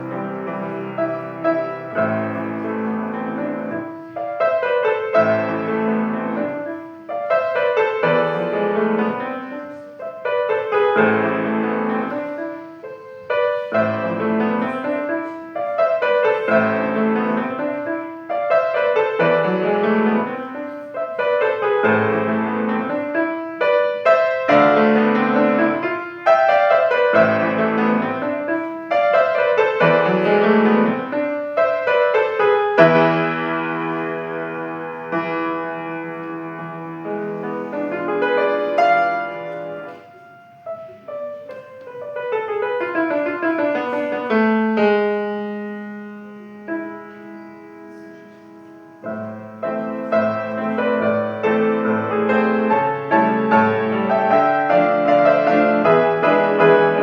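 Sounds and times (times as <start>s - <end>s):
solo piano dance piece: 0.0s - 57.0s.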